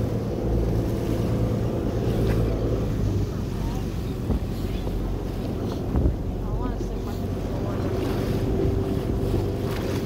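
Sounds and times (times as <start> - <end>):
boat engine rumbling: 0.0 - 10.0
wind on microphone: 1.2 - 10.0.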